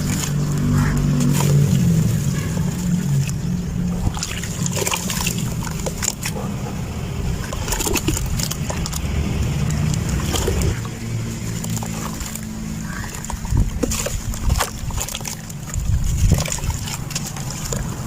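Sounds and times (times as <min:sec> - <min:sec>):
crackles and crunches of crumbling cement: 0:00.0 - 0:06.5, 0:07.1 - 0:18.0
steady low rumble: 0:00.0 - 0:18.0.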